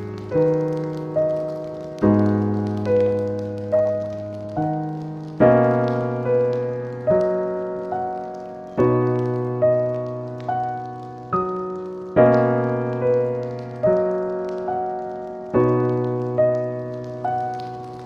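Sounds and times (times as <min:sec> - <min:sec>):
faint fireplace crackles: 0:00.0 - 0:18.0
slow solo piano: 0:00.0 - 0:18.0.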